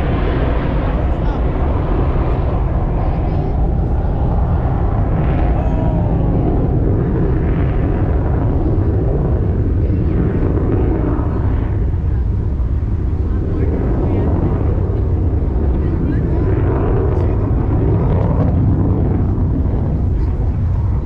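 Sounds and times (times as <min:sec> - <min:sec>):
jet engine rumbling: 0:00.0 - 0:21.0.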